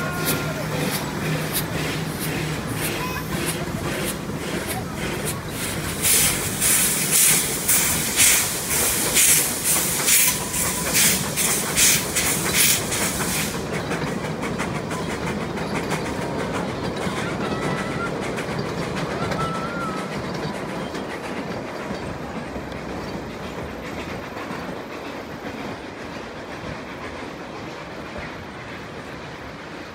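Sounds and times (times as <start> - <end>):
steam hissing: 0.0 - 29.9
steam locomotive exhaust chuffs: 0.0 - 29.9
train carriages rumbling and clattering: 0.0 - 29.9.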